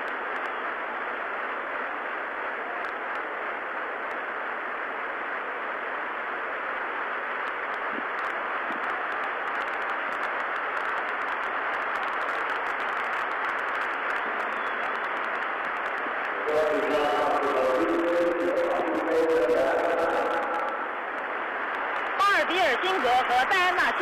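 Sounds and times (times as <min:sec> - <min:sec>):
stadium crowd noise: 0:00.0 - 0:24.0.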